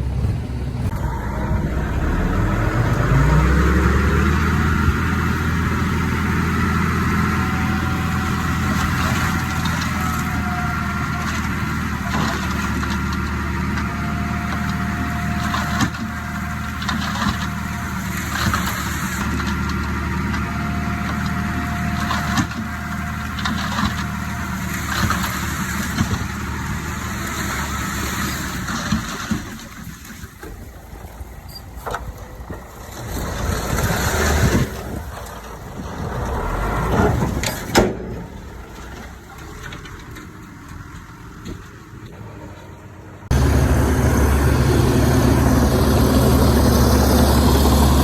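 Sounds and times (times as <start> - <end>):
heavy diesel engine running: 0.0 - 29.7, 30.6 - 48.0.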